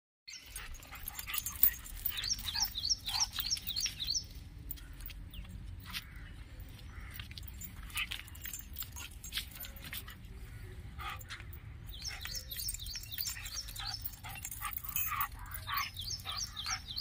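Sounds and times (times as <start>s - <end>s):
metal chain clinking: 0.3s - 17.0s.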